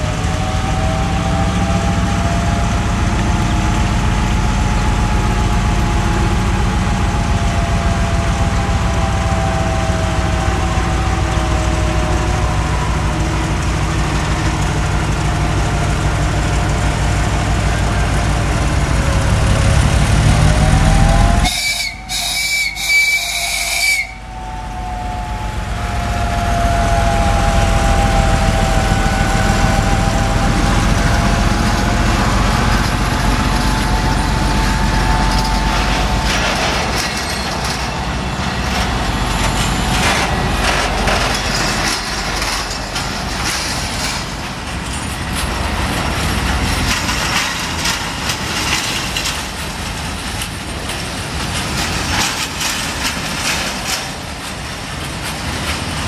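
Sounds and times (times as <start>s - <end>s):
high engine whine: 0.0s - 55.3s
diesel locomotive engine drone: 0.0s - 56.0s.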